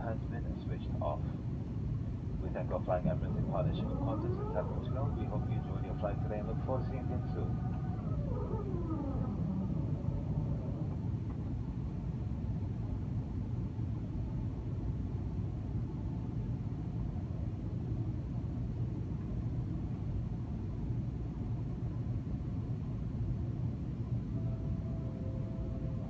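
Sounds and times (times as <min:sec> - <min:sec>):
airliner cabin low rumble: 0:00.0 - 0:26.0.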